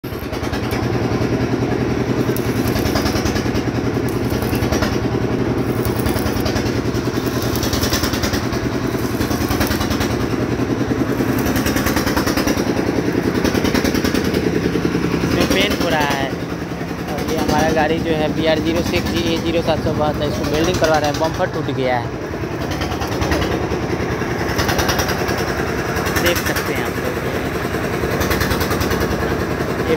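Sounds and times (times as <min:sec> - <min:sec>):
engine idling with fast chug: 0:00.0 - 0:29.9.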